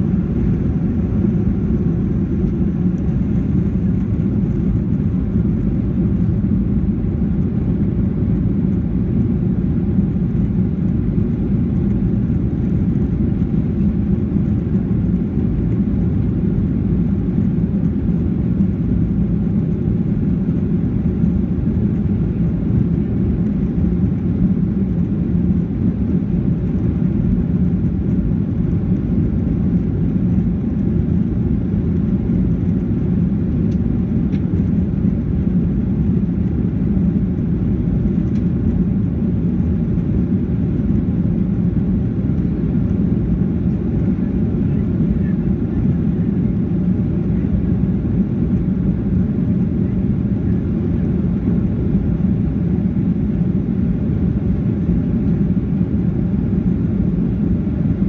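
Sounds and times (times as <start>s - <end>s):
jet engine cabin noise: 0.0s - 58.0s.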